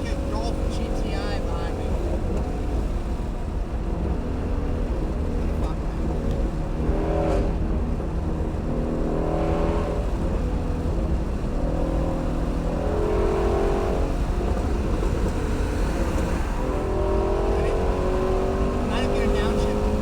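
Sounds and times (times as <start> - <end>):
engine burbling through exhaust: 0.0 - 20.0.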